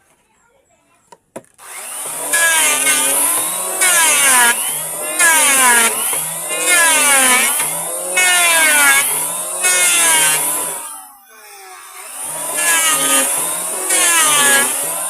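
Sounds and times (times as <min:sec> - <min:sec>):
electric planer cutting wood: 0:01.6 - 0:15.0.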